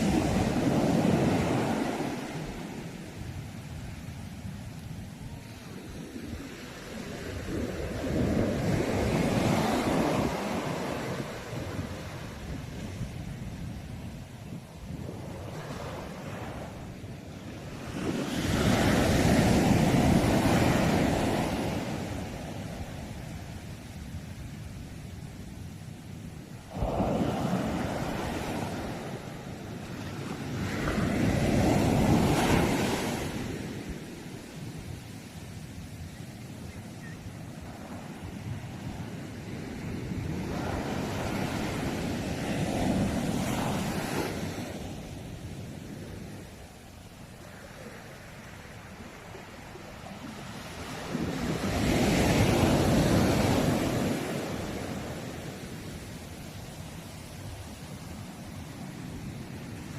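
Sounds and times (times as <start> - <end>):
sea waves breaking on shore: 0.0 - 59.9
wind rumble on microphone: 0.0 - 59.9.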